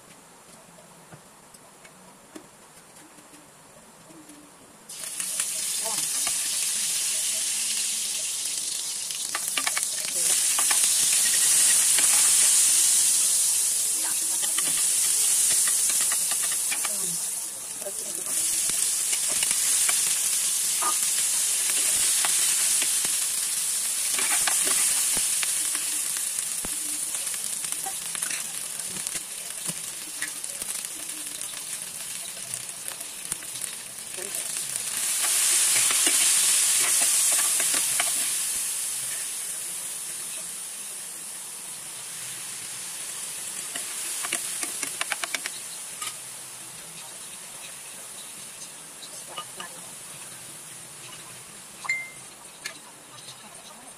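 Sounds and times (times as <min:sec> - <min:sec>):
utensil stirring pan: 0:04.9 - 0:40.8, 0:41.8 - 0:53.9
food sizzling in hot oil: 0:04.9 - 0:53.9.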